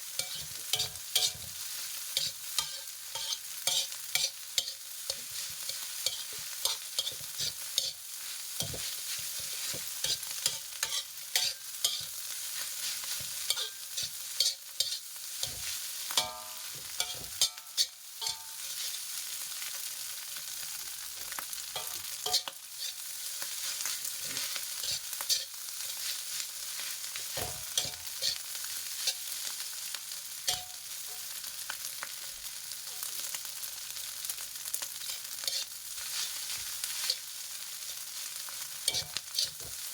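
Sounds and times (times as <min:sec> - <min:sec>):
spatula scraping a pan: 0:00.0 - 0:19.2, 0:21.8 - 0:29.6, 0:30.5 - 0:31.4, 0:35.0 - 0:39.9
rice sizzling in a frying pan: 0:00.0 - 0:39.9.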